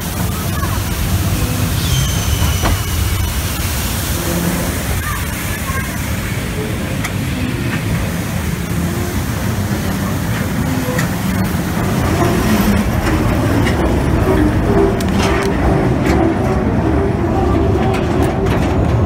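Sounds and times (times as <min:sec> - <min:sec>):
ride cars rumbling on track: 0:00.0 - 0:19.0.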